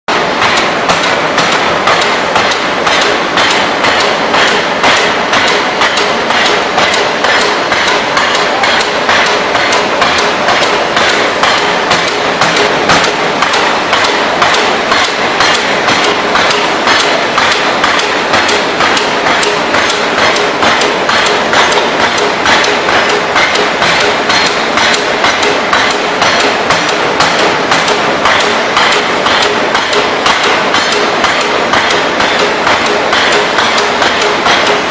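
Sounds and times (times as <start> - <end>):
forging hammer striking: 0.1 - 34.9
steady background noise: 0.1 - 34.9.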